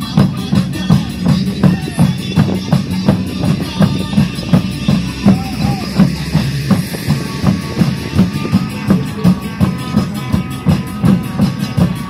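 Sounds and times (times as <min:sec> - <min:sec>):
dance music with heavy drum beat: 0:00.0 - 0:12.0.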